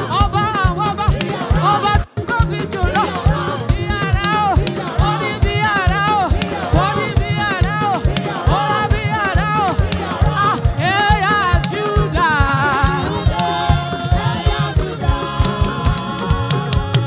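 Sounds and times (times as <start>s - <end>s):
band playing: 0.0s - 17.0s
quick steady drum beat: 0.0s - 17.0s
voices singing: 0.0s - 17.0s.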